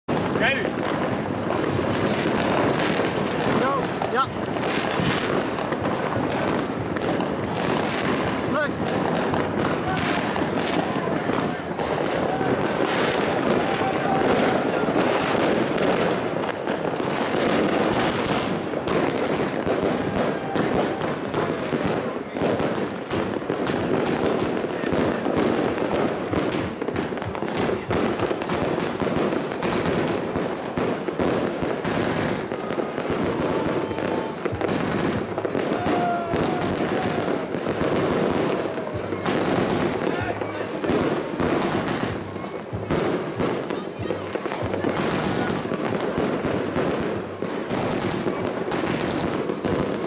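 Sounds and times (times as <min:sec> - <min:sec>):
fireworks firing rapidly: 0:00.1 - 0:50.0.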